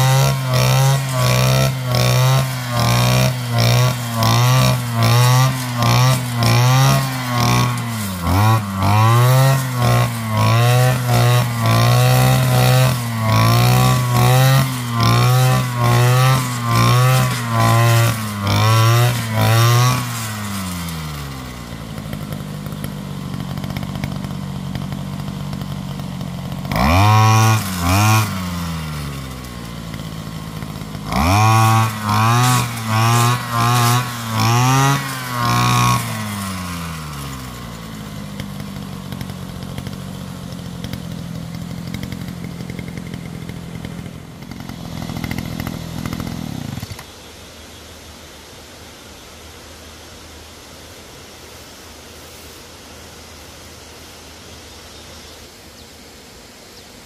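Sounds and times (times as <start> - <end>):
small petrol engine revving: 0.0 - 47.3.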